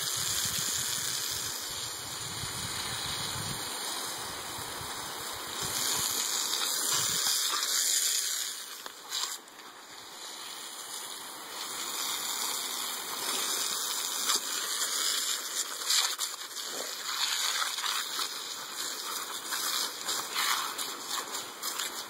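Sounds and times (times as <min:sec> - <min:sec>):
garden hose spraying water: 0:00.0 - 0:22.0.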